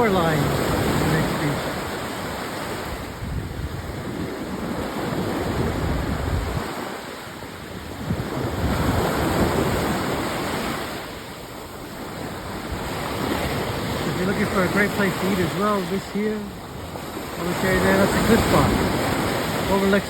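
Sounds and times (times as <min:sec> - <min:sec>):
wind on microphone: 0:00.0 - 0:15.6, 0:16.5 - 0:19.8
sea waves washing onto beach: 0:00.0 - 0:20.0.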